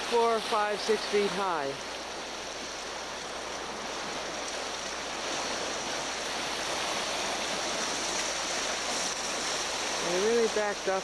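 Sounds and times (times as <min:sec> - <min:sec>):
waves and surf rushing: 0:00.0 - 0:11.0.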